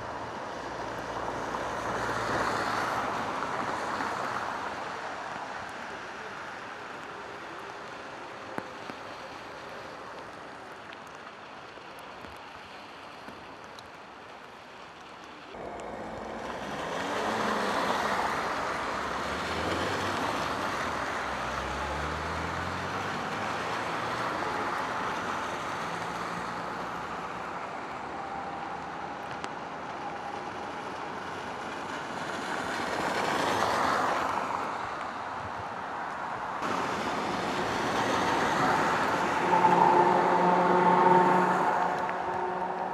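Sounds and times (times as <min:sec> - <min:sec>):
vehicles passing: 0:00.0 - 0:11.2, 0:15.2 - 0:42.9
tyres hissing on wet road: 0:00.0 - 0:42.9.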